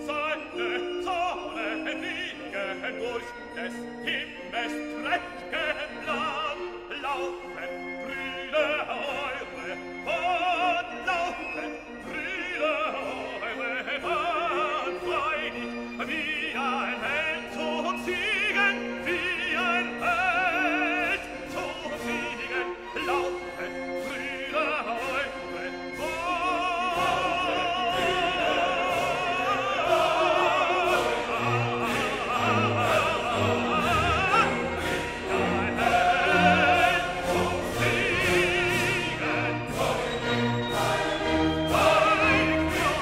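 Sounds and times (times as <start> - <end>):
opera singing voice: 0.0 - 43.0
orchestral accompaniment: 0.0 - 43.0.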